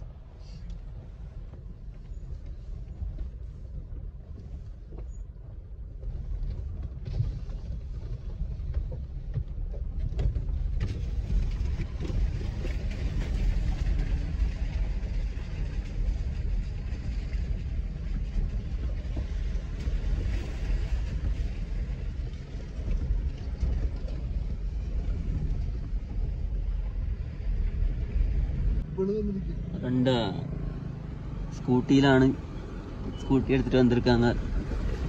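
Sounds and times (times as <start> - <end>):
vehicle cabin rumble: 0.0 - 35.0.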